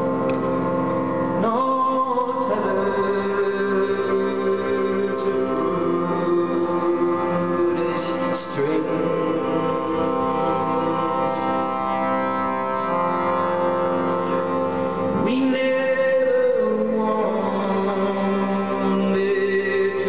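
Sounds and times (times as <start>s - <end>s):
harmonium droning chords: 0.0s - 20.0s
man singing long held note: 0.0s - 20.0s.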